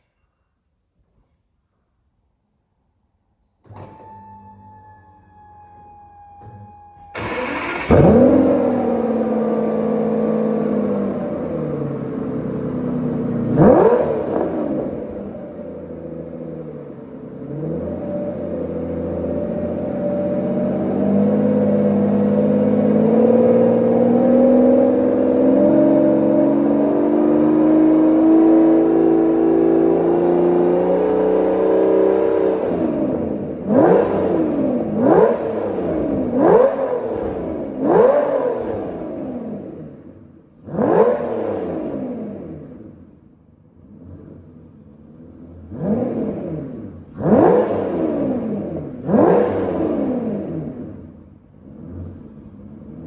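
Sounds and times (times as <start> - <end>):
car engine revving: 3.7 - 53.0.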